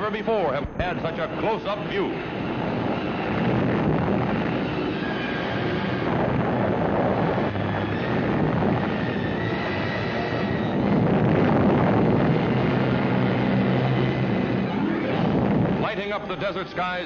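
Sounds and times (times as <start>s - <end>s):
explosion blast wave roar: 0.6s - 16.4s.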